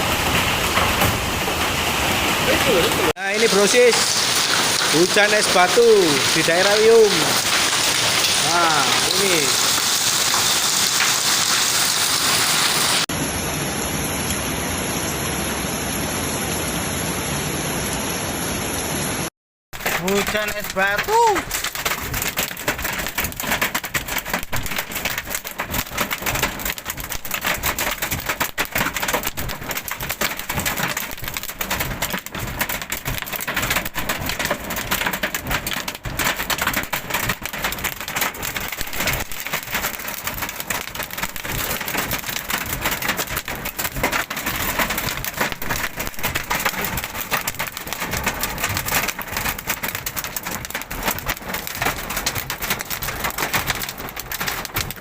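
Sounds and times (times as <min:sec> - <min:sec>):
hail and heavy rain pelting: 0:00.0 - 0:13.1, 0:19.7 - 0:55.0.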